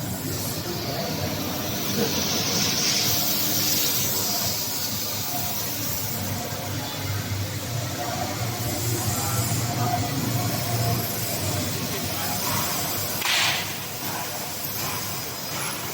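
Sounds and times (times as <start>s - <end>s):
machinery humming: 0.0s - 15.9s.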